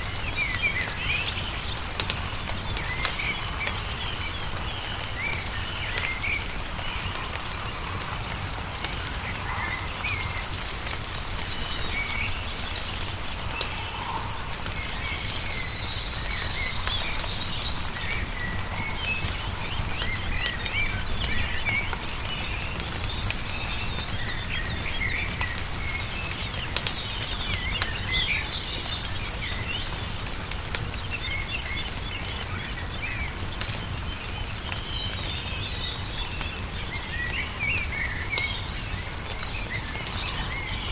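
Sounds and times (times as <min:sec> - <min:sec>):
songbirds chirping: 0:00.0 - 0:40.9
wood fire crackling and popping: 0:00.0 - 0:40.9.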